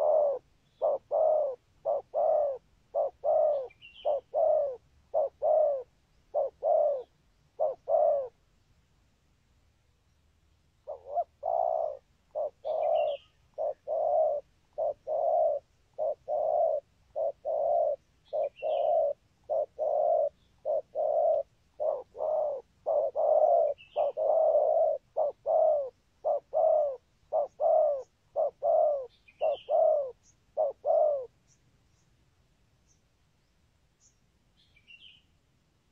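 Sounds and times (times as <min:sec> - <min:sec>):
dove cooing: 0:00.0 - 0:08.4, 0:10.8 - 0:31.4
faint high bird chirps: 0:00.0 - 0:08.4, 0:10.8 - 0:32.2, 0:32.8 - 0:35.4.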